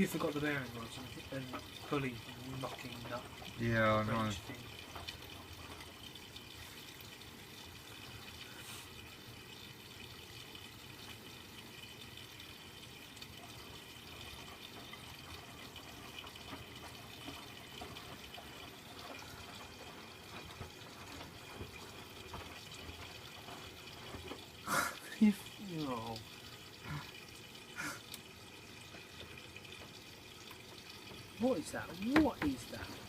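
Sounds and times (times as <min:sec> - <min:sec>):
light ticks and drips: 0:00.0 - 0:33.0
washing machine filling with water: 0:00.0 - 0:33.0.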